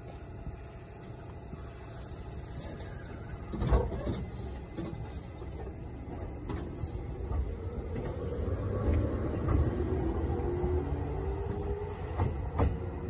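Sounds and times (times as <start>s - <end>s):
train wheel and motor noise: 0.0s - 13.0s.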